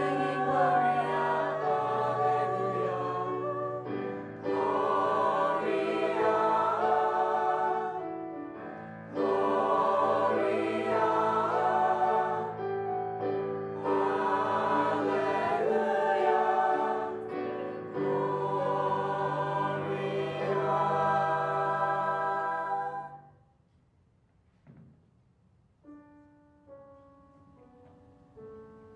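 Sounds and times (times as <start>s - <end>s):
mixed choir singing a carol: 0.0s - 23.3s.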